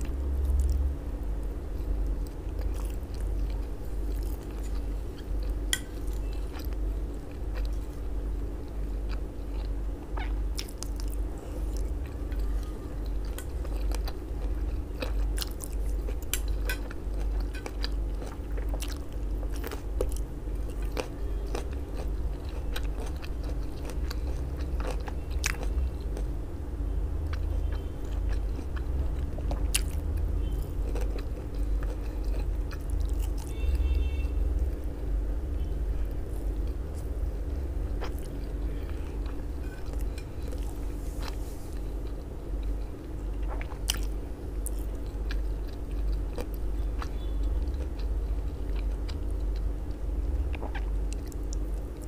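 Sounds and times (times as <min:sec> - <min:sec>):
close chewing and biting: 0:01.8 - 0:08.0, 0:08.9 - 0:26.3, 0:27.4 - 0:33.7, 0:36.3 - 0:52.0.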